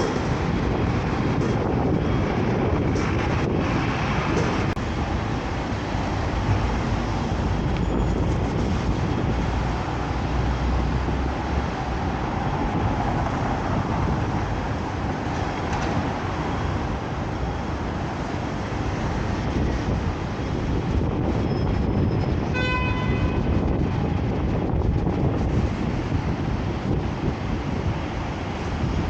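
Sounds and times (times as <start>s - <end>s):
strong wind on microphone: 0.0s - 29.0s.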